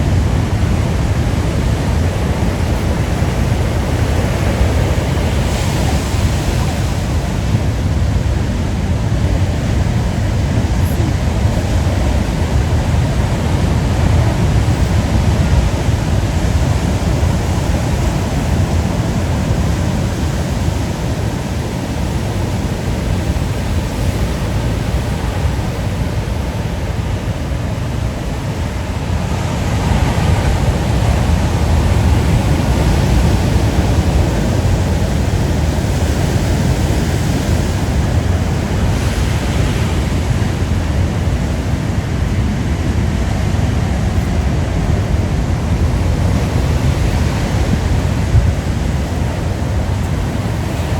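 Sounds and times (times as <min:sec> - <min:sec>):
ocean waves on rocky shore: 0:00.0 - 0:50.9
wind rumbling on microphone: 0:00.0 - 0:50.9.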